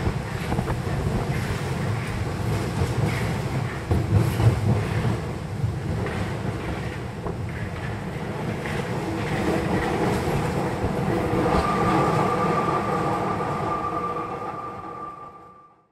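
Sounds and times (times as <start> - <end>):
train wheels on rails: 0.0 - 15.4.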